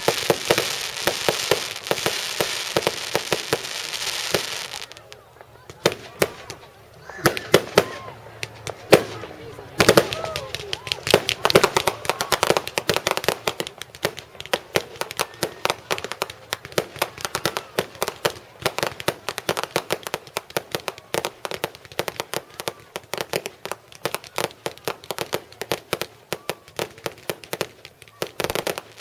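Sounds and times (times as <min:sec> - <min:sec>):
fireworks popping and banging: 0:00.0 - 0:29.0.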